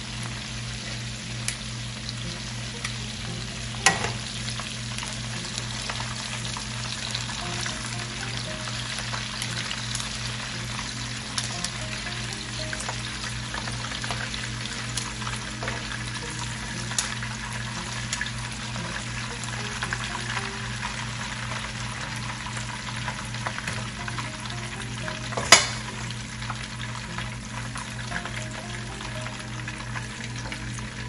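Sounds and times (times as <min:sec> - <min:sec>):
shrimp sizzling in oil: 0:00.0 - 0:31.0.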